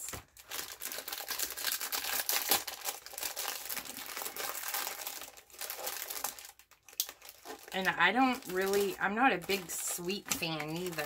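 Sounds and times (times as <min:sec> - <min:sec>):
plastic tray crinkling and crackling: 0:00.0 - 0:11.0.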